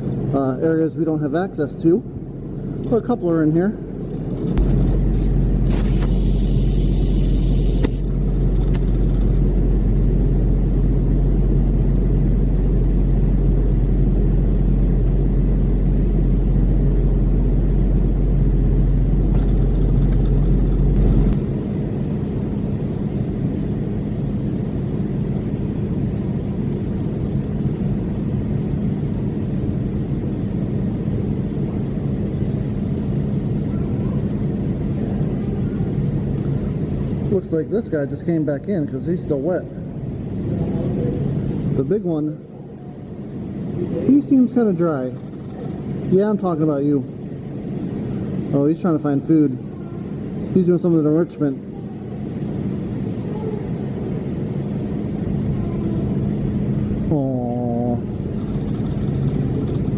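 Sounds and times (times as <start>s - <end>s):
low mechanical rumble and hum: 0.0s - 59.9s.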